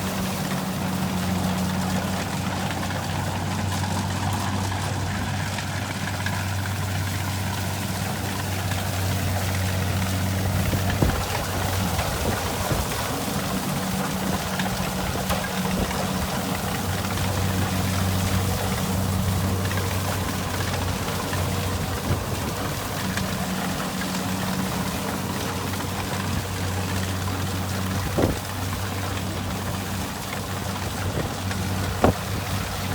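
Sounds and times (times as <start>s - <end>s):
diesel engine humming: 0.0s - 32.9s.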